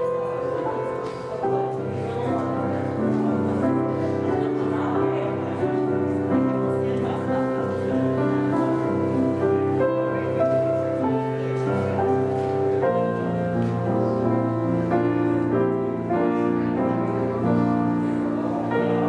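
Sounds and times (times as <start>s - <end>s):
slow keyboard chords: 0.0s - 19.0s.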